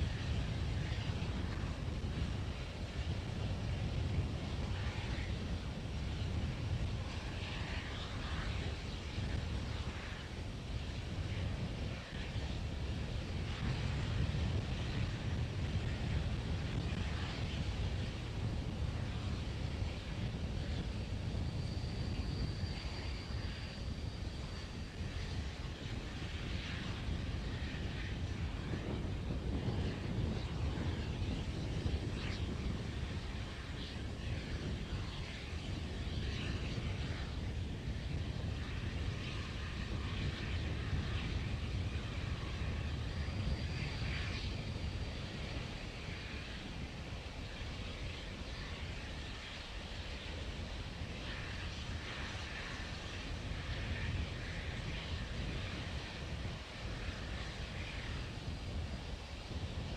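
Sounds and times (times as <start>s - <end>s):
wind on a microphone: 0.0s - 59.9s.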